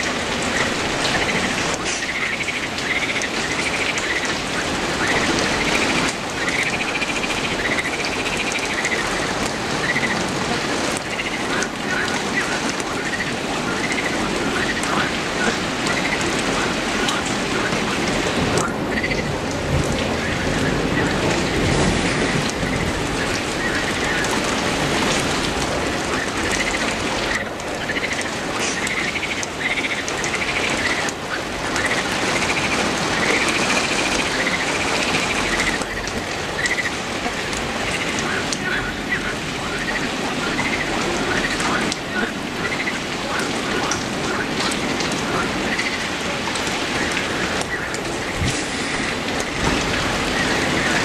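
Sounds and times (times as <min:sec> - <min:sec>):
heavy rain on leafy trees: 0:00.0 - 0:51.0.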